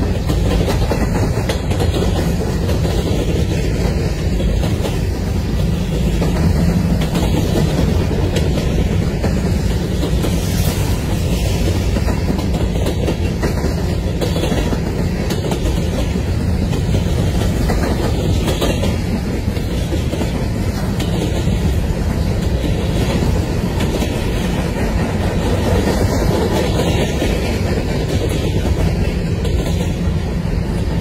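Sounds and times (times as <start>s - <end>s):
freight train wheels rumbling: 0.0s - 31.0s
wheels clicking over rail joints: 0.0s - 31.0s.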